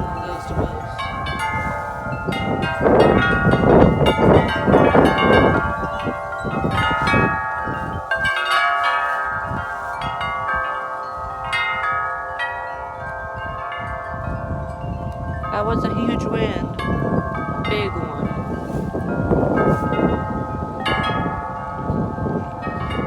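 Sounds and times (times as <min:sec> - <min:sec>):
wind chimes clanging: 0:00.0 - 0:23.0
wind rumbling: 0:00.0 - 0:23.0.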